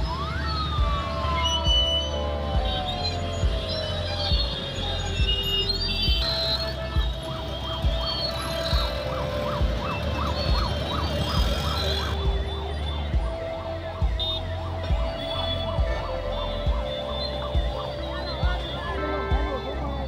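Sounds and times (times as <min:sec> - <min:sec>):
background music beat: 0:00.0 - 0:20.0
siren wailing: 0:00.0 - 0:20.0.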